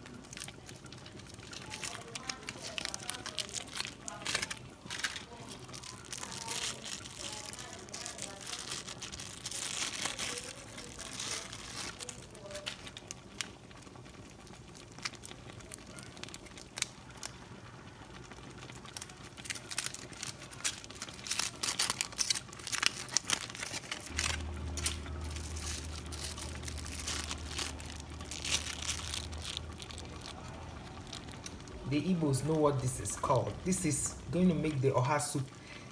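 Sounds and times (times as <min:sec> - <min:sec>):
plastic bag crinkling: 0:00.0 - 0:34.0
low steady hum: 0:00.0 - 0:35.9.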